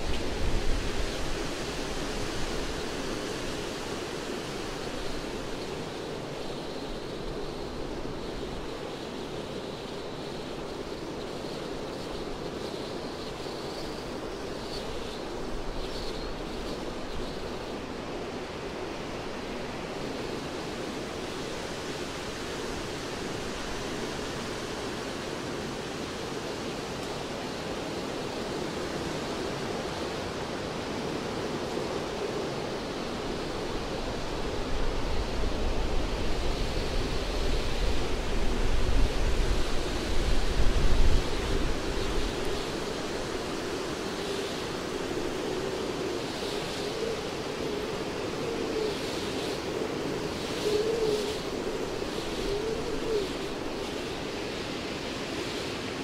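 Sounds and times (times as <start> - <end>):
wind rushing through treetops: 0.0 - 56.0.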